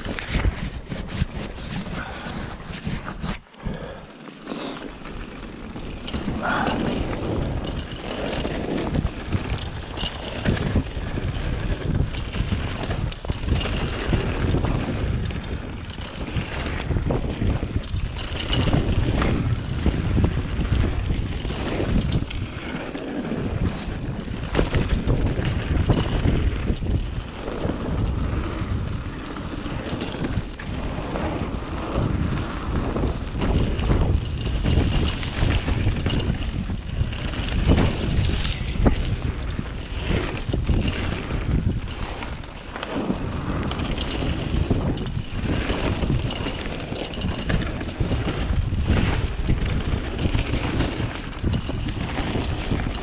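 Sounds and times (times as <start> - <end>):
wind buffeting microphone: 0.0 - 4.1, 4.9 - 53.0.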